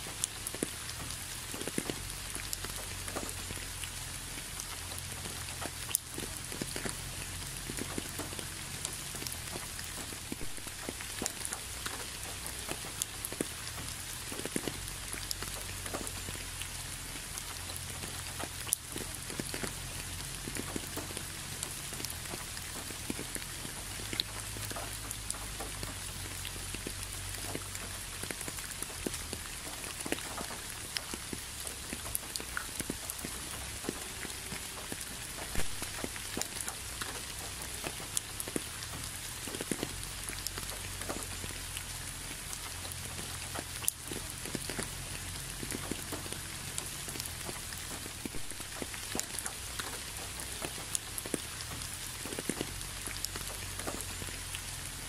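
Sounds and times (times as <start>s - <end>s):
rain hiss: 0.0s - 55.0s
raindrops pattering on leaves: 0.0s - 55.0s.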